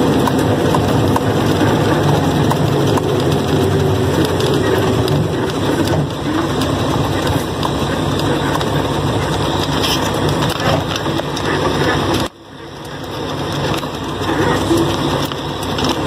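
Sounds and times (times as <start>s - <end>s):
cab and load rattling: 0.0s - 16.0s
truck engine droning: 0.0s - 16.0s.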